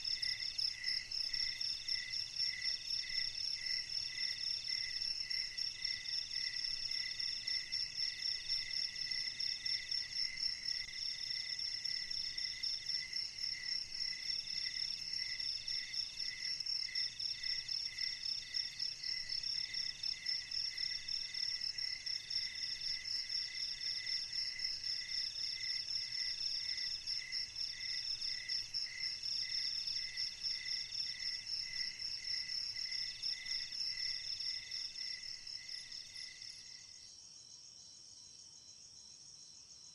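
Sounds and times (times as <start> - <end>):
crickets chorus: 0.0 - 39.9.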